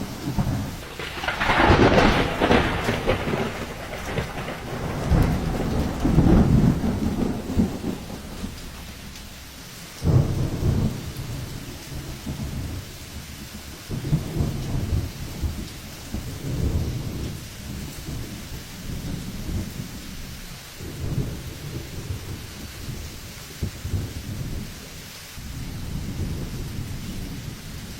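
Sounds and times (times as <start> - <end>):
steady rain: 0.0 - 27.9
wind gusts buffeting microphone: 0.0 - 27.9.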